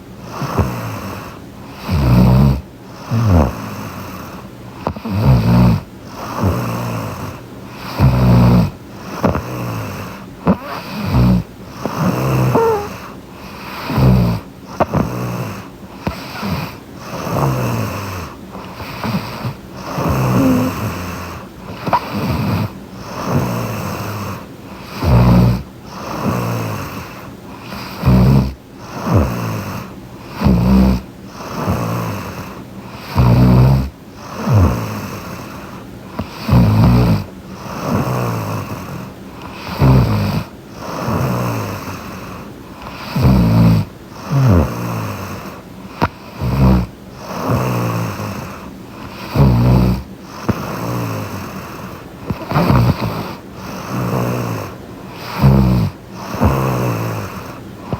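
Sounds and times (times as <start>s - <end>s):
quiet breathing: 0.0s - 57.9s
woman snoring: 0.2s - 57.9s.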